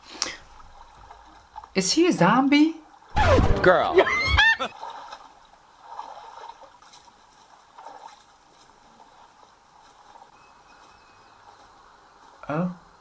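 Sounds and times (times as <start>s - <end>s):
water sloshing and trickling: 0.0s - 3.2s, 4.7s - 13.0s.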